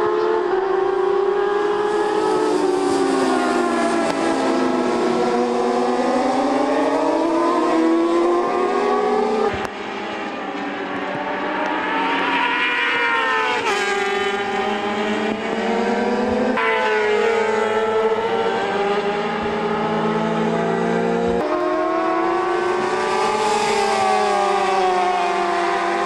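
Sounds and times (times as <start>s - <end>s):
racing motorcycle engines: 0.0s - 26.0s.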